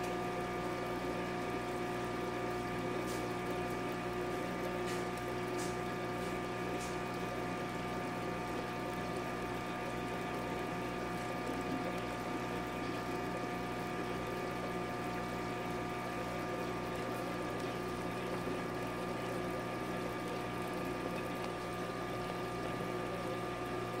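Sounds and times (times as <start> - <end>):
flowing water: 0.0 - 24.0
water pump humming: 0.0 - 24.0.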